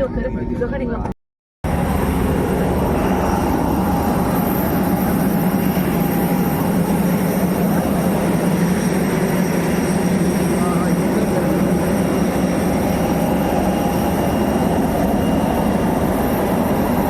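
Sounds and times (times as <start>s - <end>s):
loud engine drone: 1.6s - 17.0s.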